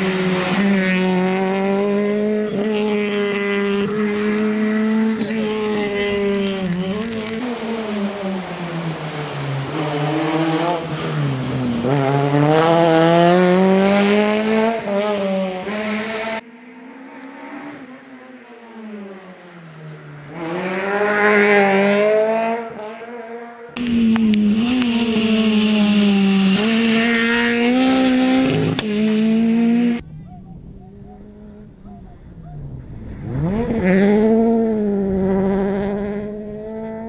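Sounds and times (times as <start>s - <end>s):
rally car engine revving: 0.0s - 16.4s, 20.2s - 37.0s.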